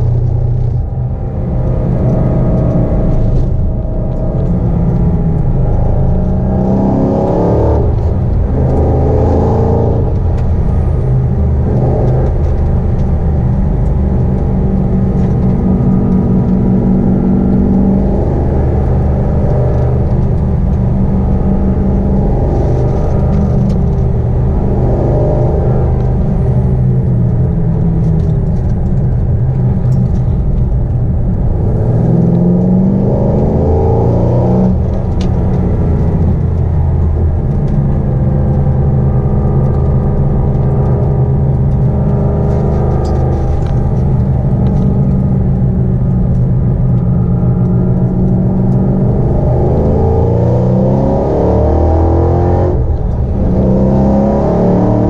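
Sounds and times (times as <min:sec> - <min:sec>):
supercharged engine accelerating: 0:00.0 - 0:55.0.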